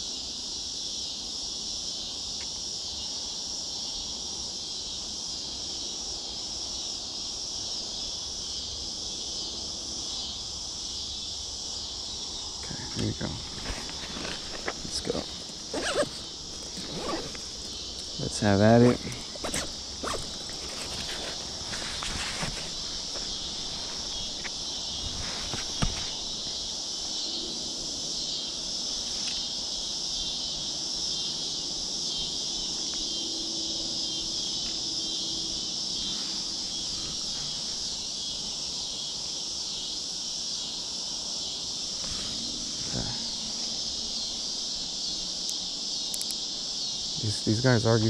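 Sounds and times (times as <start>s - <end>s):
insects chorus: 0.0s - 48.0s.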